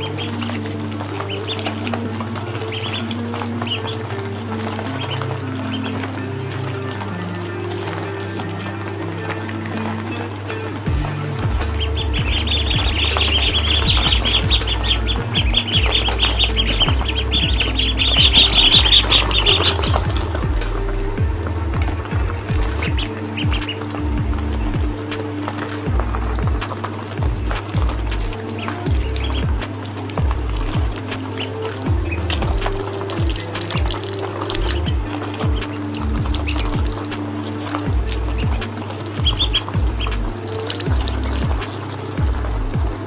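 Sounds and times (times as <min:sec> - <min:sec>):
ducklings peeping: 0:00.0 - 0:43.0
soft background music: 0:00.0 - 0:43.0.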